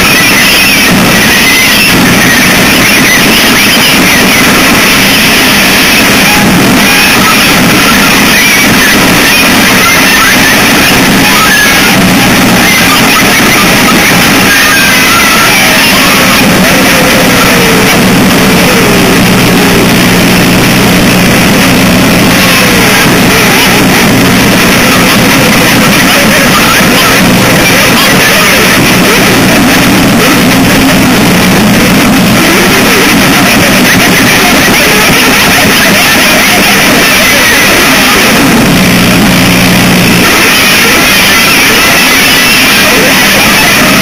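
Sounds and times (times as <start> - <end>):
steady low hum: 0.0 - 44.0
wall of distorted noise: 0.0 - 44.0.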